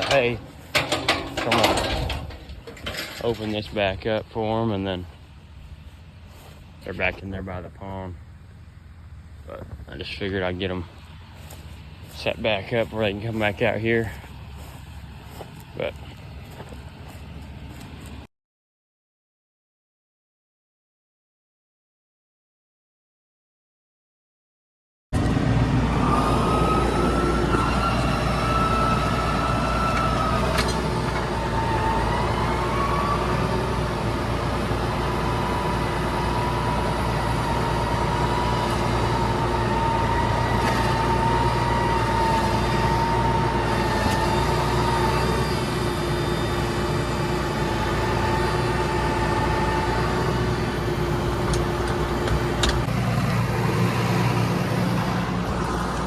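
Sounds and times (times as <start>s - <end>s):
vehicle engine running: 0.0s - 18.3s, 25.2s - 56.0s.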